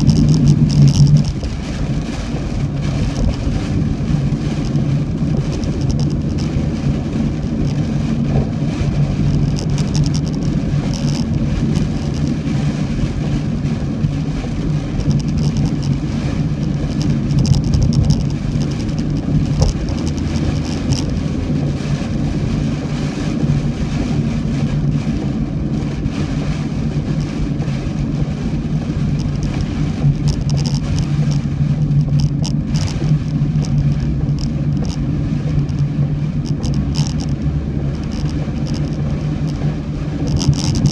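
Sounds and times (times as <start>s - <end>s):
car engine and road hum: 0.0s - 40.9s
rain spattering on car: 0.0s - 40.9s.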